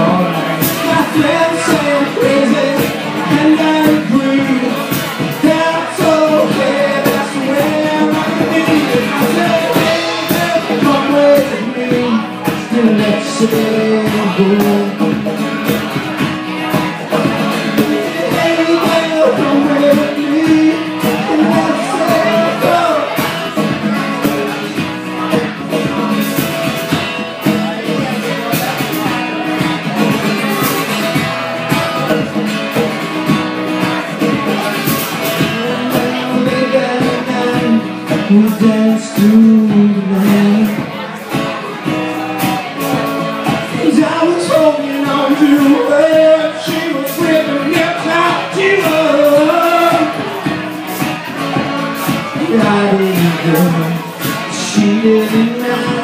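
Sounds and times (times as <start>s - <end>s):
acoustic guitar strumming: 0.0s - 56.0s
drums: 0.0s - 56.0s.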